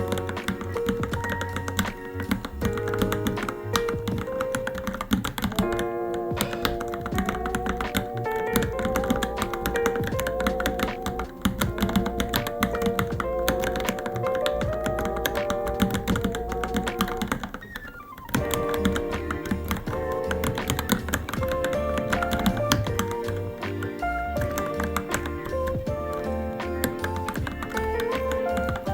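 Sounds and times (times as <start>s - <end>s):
background music: 0.0s - 28.9s
mechanical keyboard typing: 0.0s - 28.9s.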